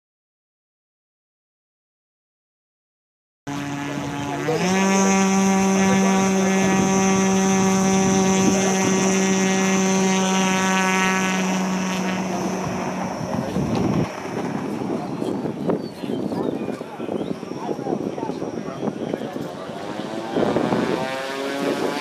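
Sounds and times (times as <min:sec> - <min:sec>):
model plane motor and propeller: 0:03.5 - 0:22.0
wind noise: 0:03.6 - 0:22.0.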